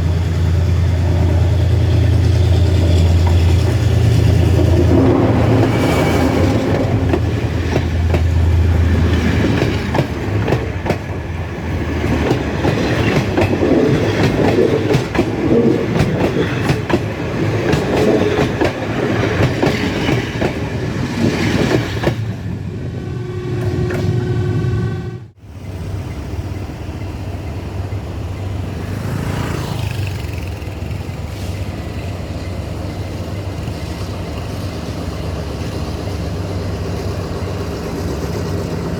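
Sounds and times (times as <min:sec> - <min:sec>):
locomotive engine drone: 0:00.0 - 0:18.2, 0:22.3 - 0:38.9.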